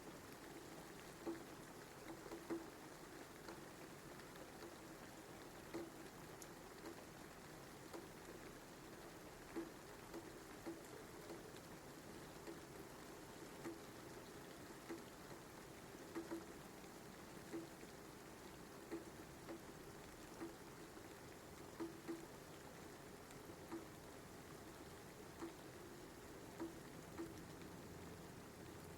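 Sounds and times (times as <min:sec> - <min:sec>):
faint rain hiss: 0:00.0 - 0:28.9
raindrops landing: 0:00.0 - 0:28.9.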